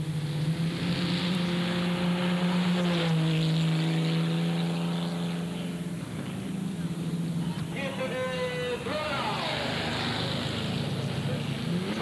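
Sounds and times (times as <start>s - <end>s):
race car engine passing: 0.0s - 12.0s.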